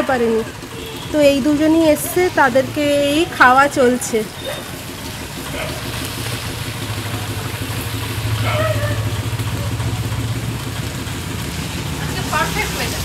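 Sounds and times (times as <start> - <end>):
rain hissing: 0.0 - 13.0
small engine humming: 0.0 - 13.0.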